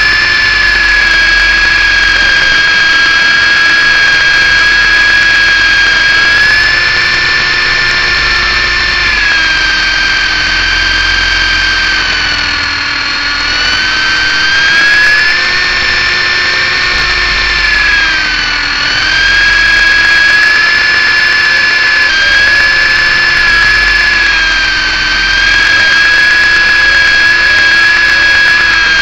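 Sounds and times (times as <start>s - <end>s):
rc helicopter motor whine: 0.0s - 29.0s.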